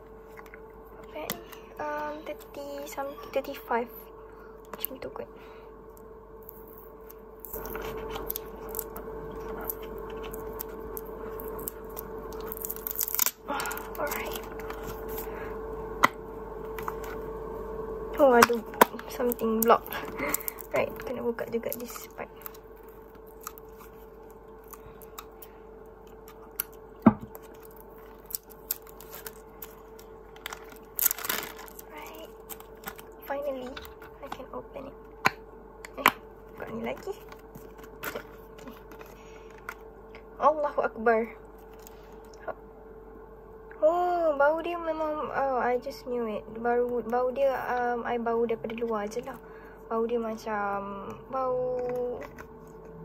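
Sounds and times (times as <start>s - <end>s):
faint hum: 0.0s - 53.0s.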